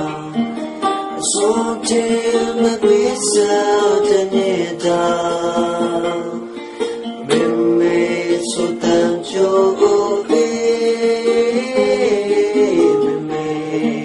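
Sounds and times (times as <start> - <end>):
guitar: 0.0 - 14.0
person singing long notes: 0.0 - 14.0.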